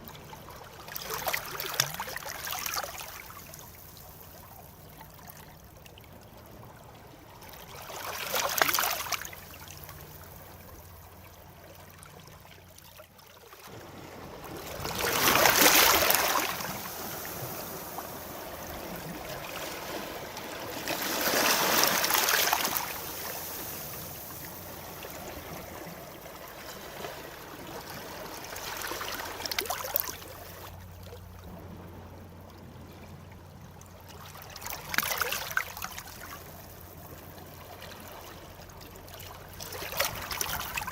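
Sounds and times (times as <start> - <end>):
sea waves breaking on shore: 0.0 - 5.5, 6.4 - 40.9.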